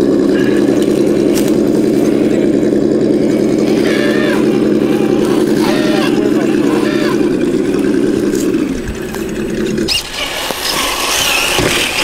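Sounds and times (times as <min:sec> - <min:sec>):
simulated engine hum from speaker: 0:00.0 - 0:12.0.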